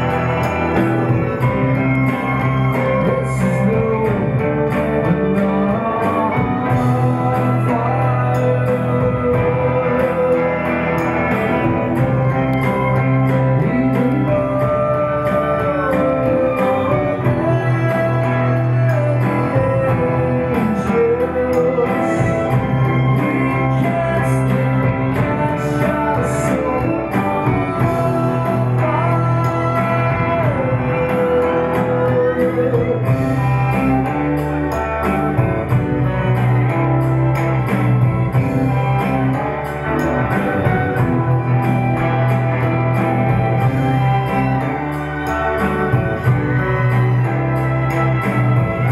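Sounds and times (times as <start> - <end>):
electric guitar: 0.0 - 48.9
man singing rock song: 0.0 - 48.9.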